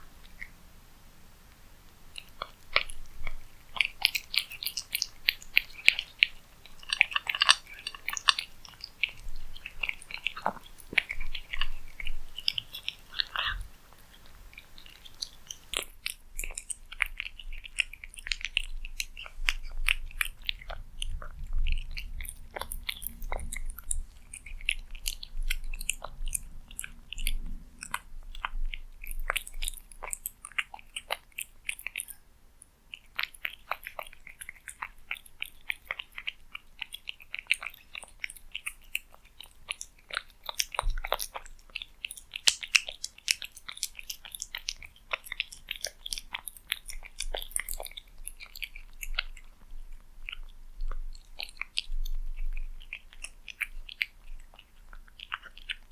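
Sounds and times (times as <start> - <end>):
cat chewing food: 0.0 - 55.9.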